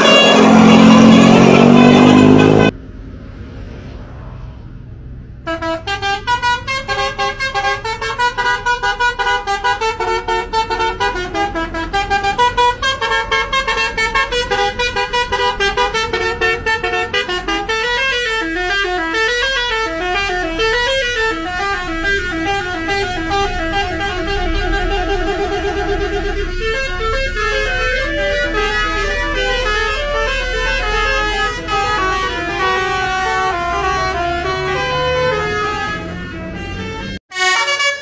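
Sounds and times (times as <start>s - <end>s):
musical bus horn melody: 0.0s - 2.8s, 5.4s - 38.0s.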